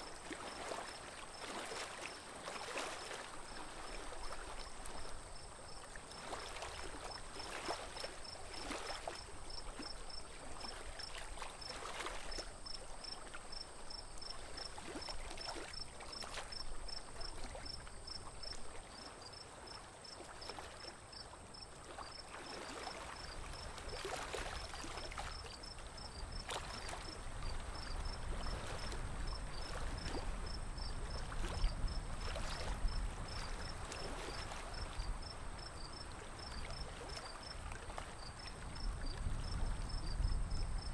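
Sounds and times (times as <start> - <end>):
water splashing around a boat: 0.0 - 40.9.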